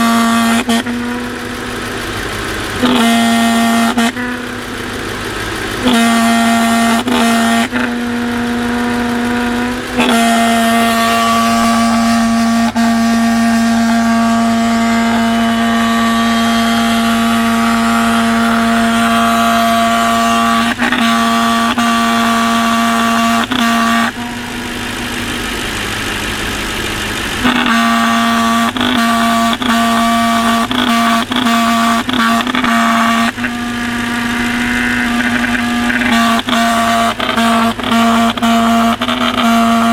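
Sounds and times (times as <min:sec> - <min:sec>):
engine hum-like tone: 0:00.0 - 0:39.9.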